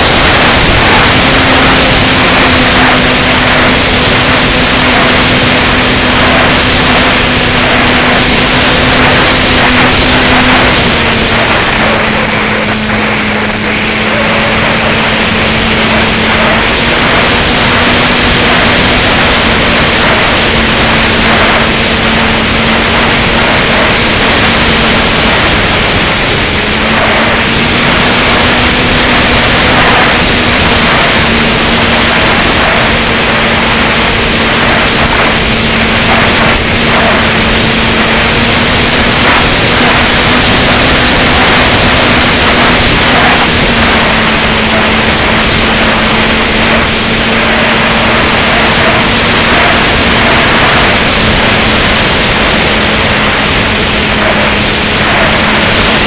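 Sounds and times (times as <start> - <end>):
electric motor and propeller hum: 0.0 - 56.0
wind rushing over microphone: 0.0 - 56.0.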